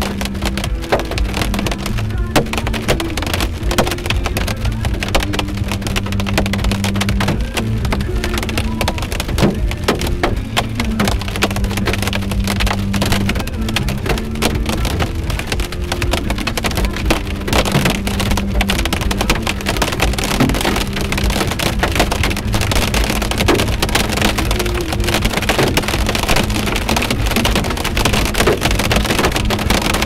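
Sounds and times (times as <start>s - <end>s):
car road noise: 0.0s - 30.0s
rain pelting car roof: 0.0s - 30.0s.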